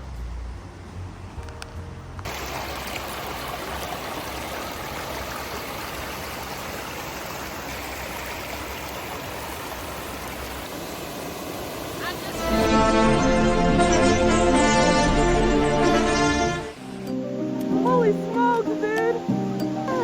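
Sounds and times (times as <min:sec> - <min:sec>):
creek water flowing: 0:02.2 - 0:20.0.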